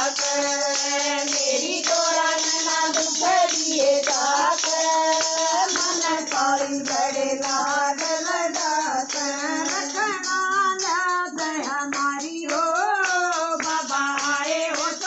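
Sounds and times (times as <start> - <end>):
jingling percussion: 0.0 - 15.0.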